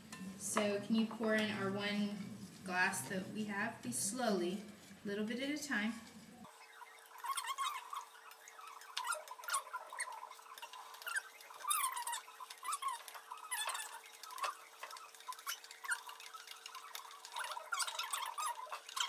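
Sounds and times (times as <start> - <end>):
batter stirred in mixing bowl: 0.0 - 19.0.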